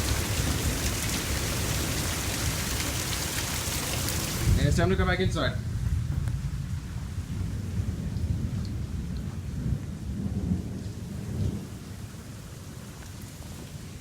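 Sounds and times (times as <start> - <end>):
rain hissing: 0.0 - 12.3
thunder rumbling: 0.0 - 12.8.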